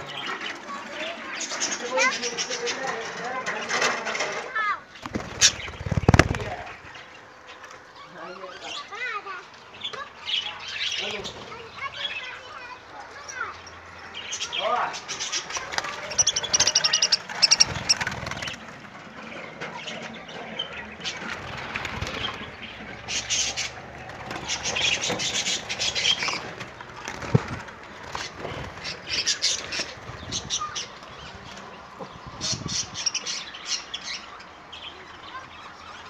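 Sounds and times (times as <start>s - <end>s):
budgerigars chirping and chattering: 0.0s - 4.2s, 4.9s - 36.0s.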